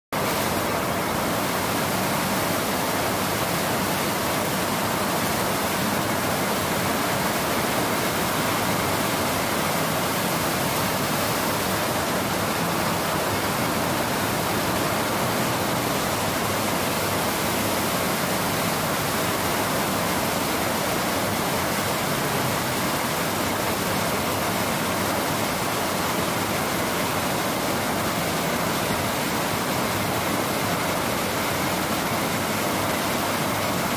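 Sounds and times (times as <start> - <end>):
steady rainfall: 0.2 - 33.9.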